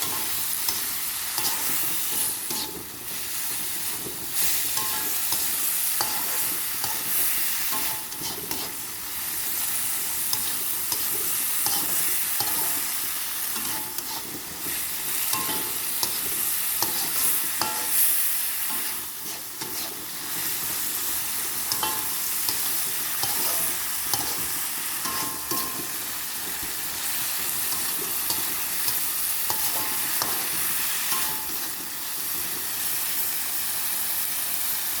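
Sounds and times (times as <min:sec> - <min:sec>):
spatula scraping a pan: 0:00.0 - 0:09.0, 0:09.6 - 0:26.1, 0:27.0 - 0:31.9
food sizzling in a pan: 0:00.0 - 0:35.0.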